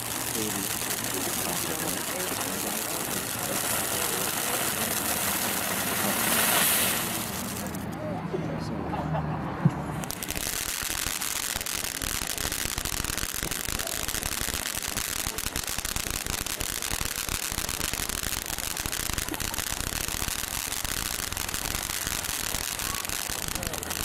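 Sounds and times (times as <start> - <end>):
firework fountain hissing: 0.0 - 8.0, 10.0 - 24.0
rapid crackling sparks: 0.0 - 8.0, 10.0 - 24.0.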